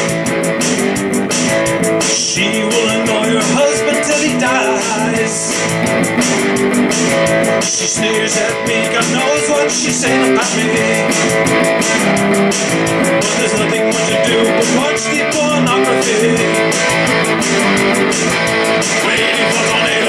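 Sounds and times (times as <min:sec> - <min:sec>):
electric guitar strumming: 0:00.0 - 0:20.0.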